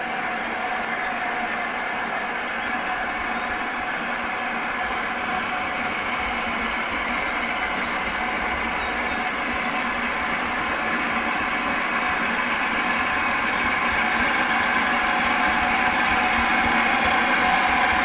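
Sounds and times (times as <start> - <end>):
steam locomotive heavy exhaust: 0.0 - 18.0.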